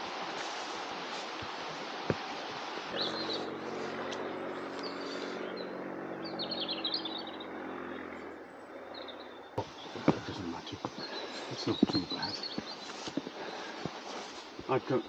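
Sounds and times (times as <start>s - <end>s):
low engine hum: 0.0s - 15.0s
small birds chirping: 0.0s - 15.0s.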